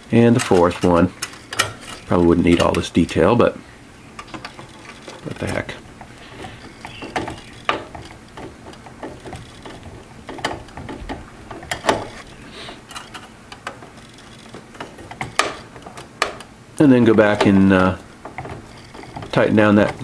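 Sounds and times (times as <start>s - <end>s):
screw clicking and scraping metal: 0.3s - 3.3s, 4.2s - 20.0s.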